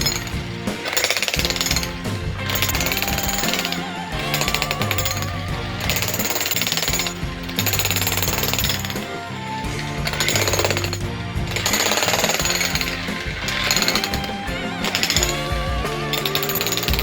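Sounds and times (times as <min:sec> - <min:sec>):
demolition hammer breaking concrete: 0:00.0 - 0:17.0.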